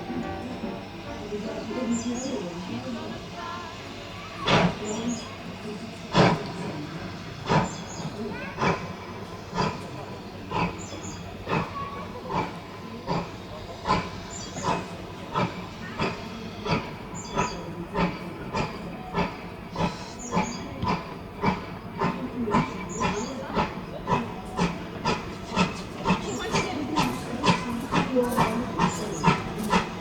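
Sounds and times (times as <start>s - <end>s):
steam train chugging: 0.0s - 30.0s.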